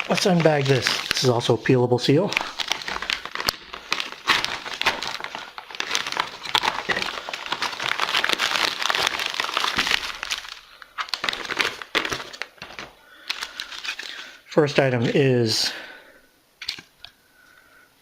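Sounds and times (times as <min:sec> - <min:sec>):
plastic packaging crinkling: 0:00.0 - 0:14.8.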